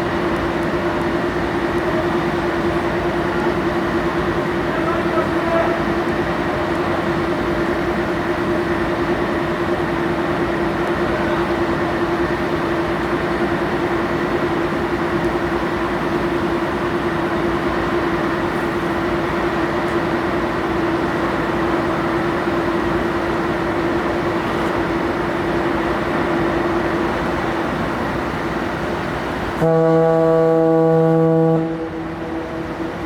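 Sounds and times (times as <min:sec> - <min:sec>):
ship engines rumbling: 0:00.0 - 0:33.0.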